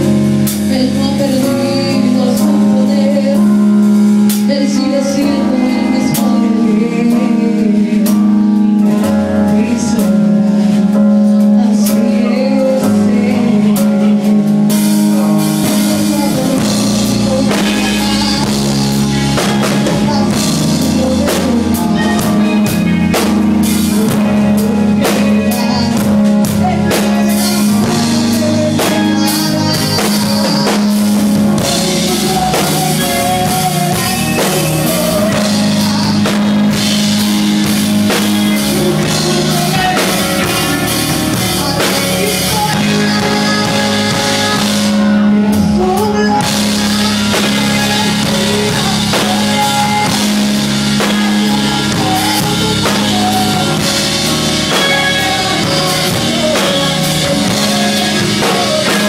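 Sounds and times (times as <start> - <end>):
woman singing into a microphone: 0.0 - 59.0
worship band playing: 0.0 - 59.0.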